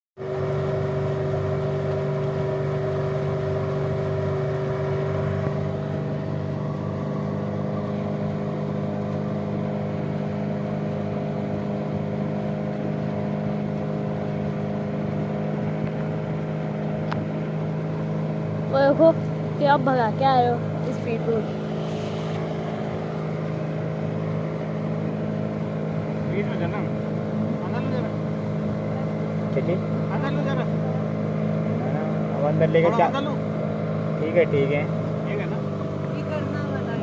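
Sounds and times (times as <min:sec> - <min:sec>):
motorboat engine running: 0:00.2 - 0:37.0.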